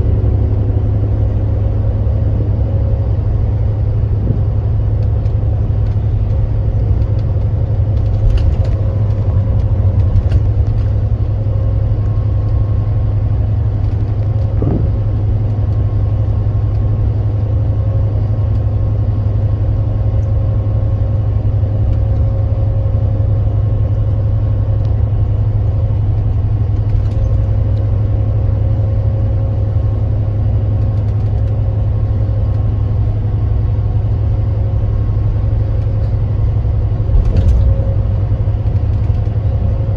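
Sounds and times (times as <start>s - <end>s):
coach engine droning: 0.0s - 39.9s.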